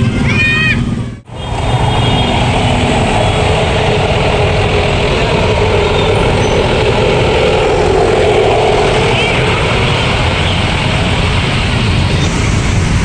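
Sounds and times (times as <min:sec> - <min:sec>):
bus engine rumble: 0:00.0 - 0:13.0
road noise: 0:00.0 - 0:13.0.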